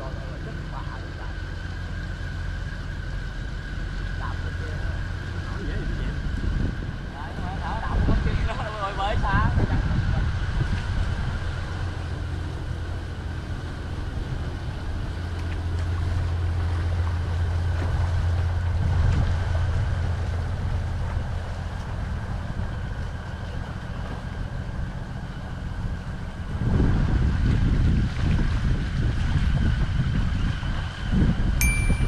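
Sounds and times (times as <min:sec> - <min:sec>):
boat engine drone: 0:00.0 - 0:32.0.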